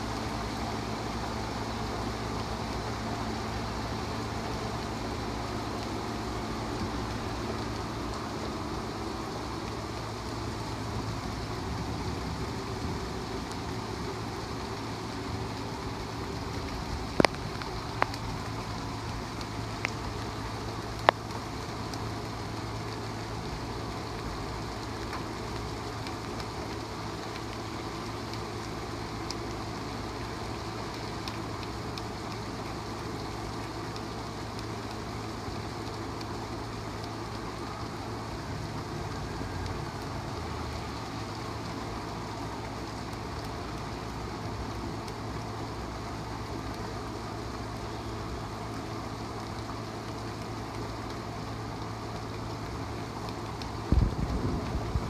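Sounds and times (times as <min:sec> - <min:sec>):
low steady hum: 0:00.0 - 0:55.0
steady rain hissing: 0:00.0 - 0:55.0.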